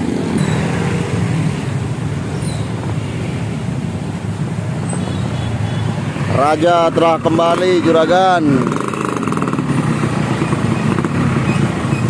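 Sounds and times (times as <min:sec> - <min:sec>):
motorbikes and cars passing: 0:00.0 - 0:12.0.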